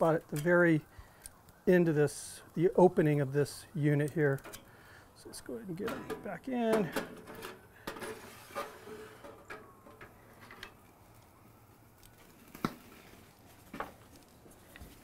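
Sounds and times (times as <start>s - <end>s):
fat popping and crackling: 0.0s - 15.0s.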